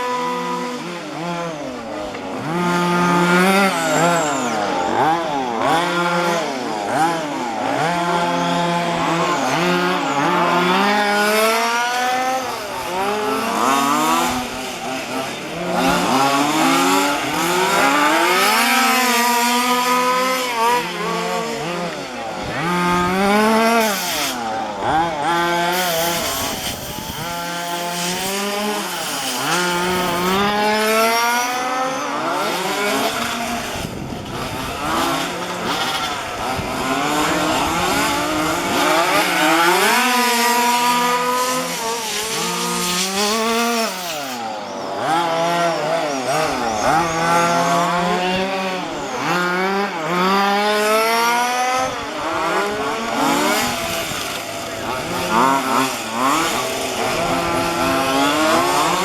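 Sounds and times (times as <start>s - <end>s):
small two-stroke engines revving: 0.0s - 59.0s.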